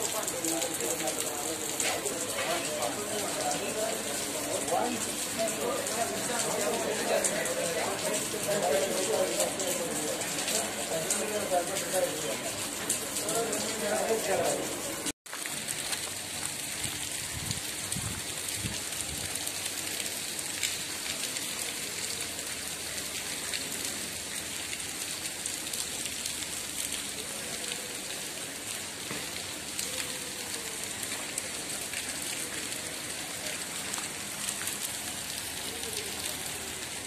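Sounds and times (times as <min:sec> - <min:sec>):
rain on wet pavement: 0:00.0 - 0:37.0.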